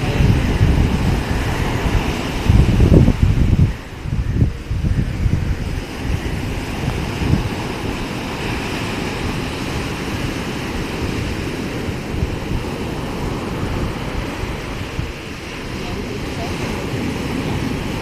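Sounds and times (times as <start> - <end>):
sea surf washing: 0.0 - 18.0
wind buffeting microphone: 0.0 - 18.0.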